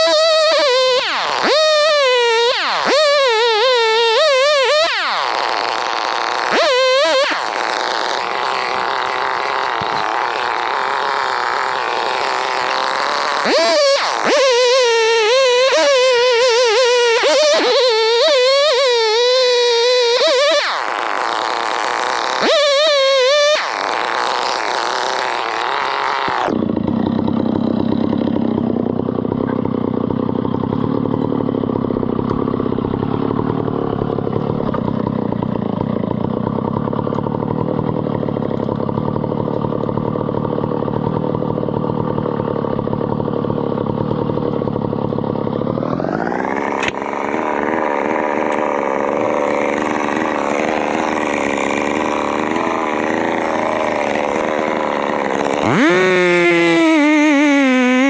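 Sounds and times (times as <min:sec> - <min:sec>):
engine whining and droning: 0:00.0 - 0:58.0.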